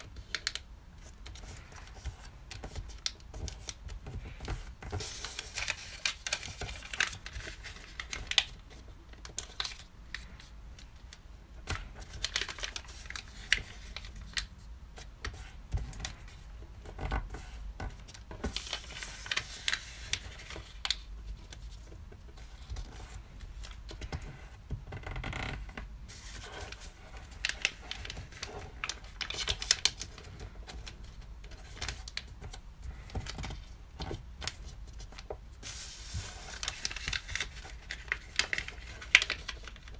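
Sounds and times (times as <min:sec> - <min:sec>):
paper crinkling while folded: 0:00.0 - 0:39.9.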